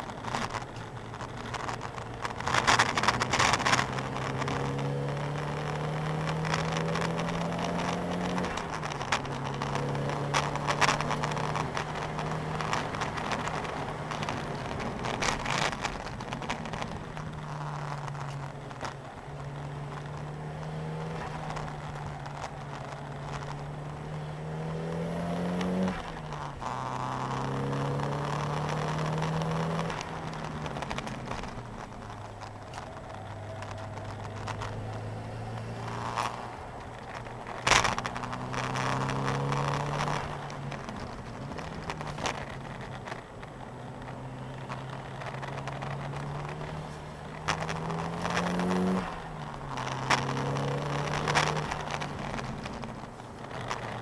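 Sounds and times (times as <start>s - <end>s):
car engine revving: 0.0s - 54.0s
tyre and wind noise: 0.0s - 54.0s.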